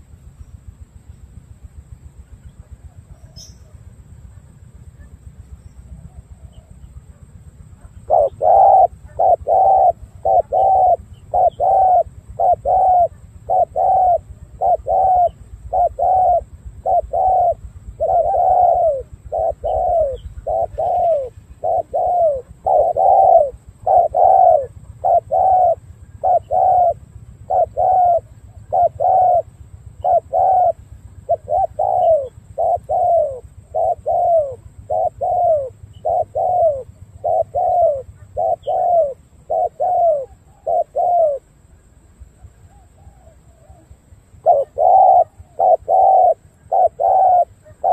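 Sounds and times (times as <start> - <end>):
dove cooing: 5.8 - 41.6, 42.3 - 47.9.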